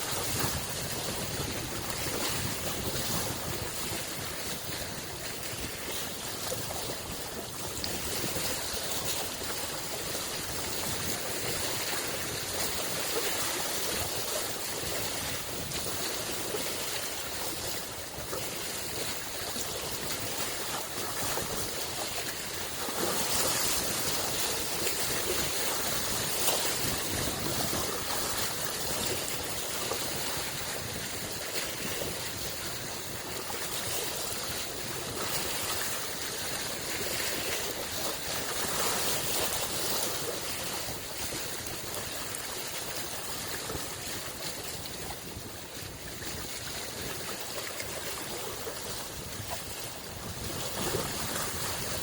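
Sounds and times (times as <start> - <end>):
lake waves lapping at shore: 0.0 - 52.0.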